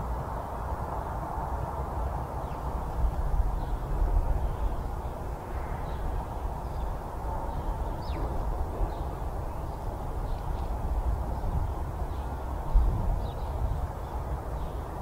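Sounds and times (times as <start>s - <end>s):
low outdoor rumble: 0.0s - 15.0s
small birds chirping: 2.3s - 15.0s.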